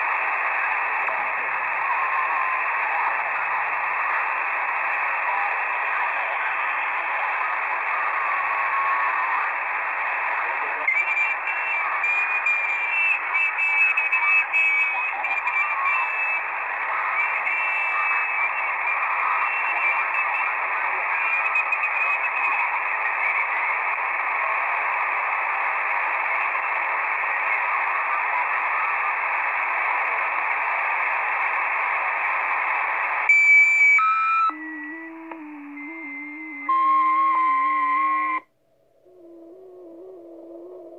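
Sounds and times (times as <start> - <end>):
garbled radio signals: 0.0 - 38.5
radio static hiss: 0.0 - 38.5.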